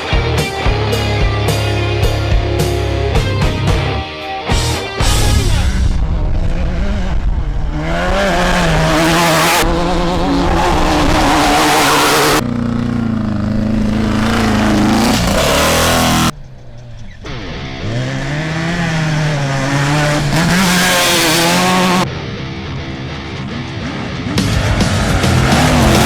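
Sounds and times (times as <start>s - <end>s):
off-road vehicle engines revving: 5.0s - 26.0s.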